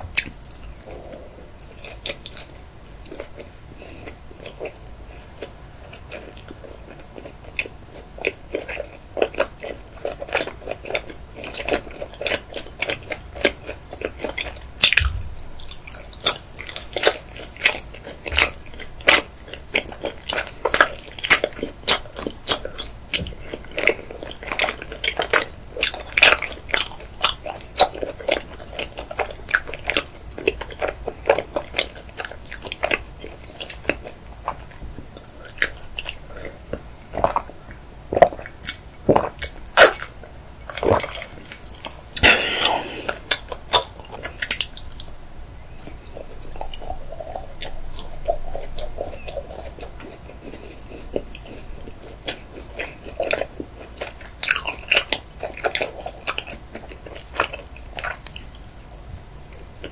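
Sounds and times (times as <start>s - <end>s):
chewing with crisp crunches: 0.0s - 59.9s.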